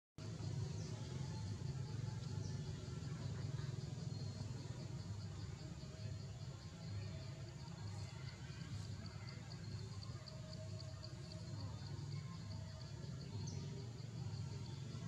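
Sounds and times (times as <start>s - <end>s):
insect chirping: 0.2s - 15.0s.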